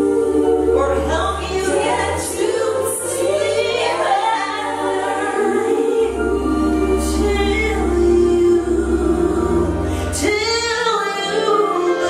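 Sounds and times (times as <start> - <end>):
women singing gospel in harmony: 0.0 - 12.0.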